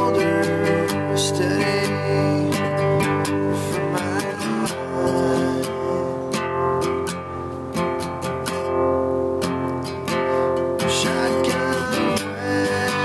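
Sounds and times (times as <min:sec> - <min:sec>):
guitar strumming: 0:00.0 - 0:13.0.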